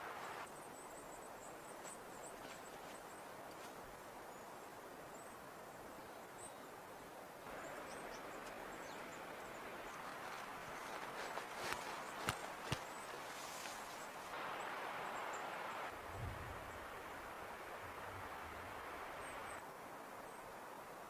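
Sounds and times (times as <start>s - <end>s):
snowstorm wind hiss: 0.0s - 21.0s.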